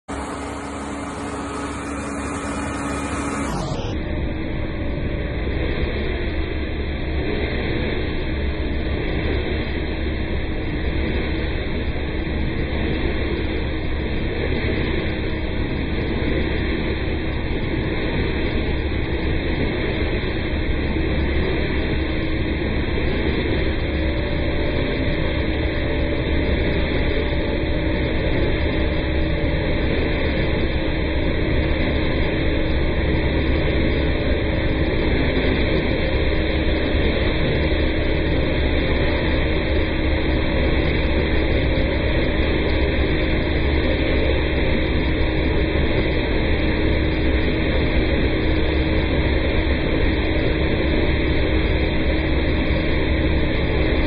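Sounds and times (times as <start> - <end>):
truck engine and vacuum blower: 0.0 - 54.0.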